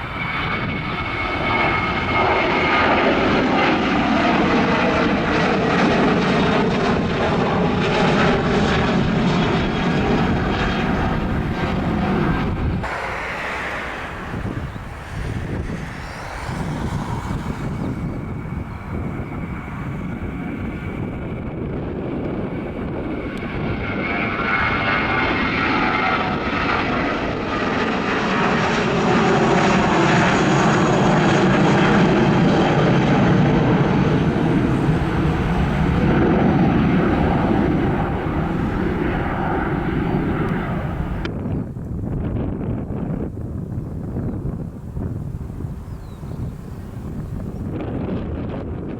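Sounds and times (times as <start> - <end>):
airliner engines passing: 0.0 - 48.9.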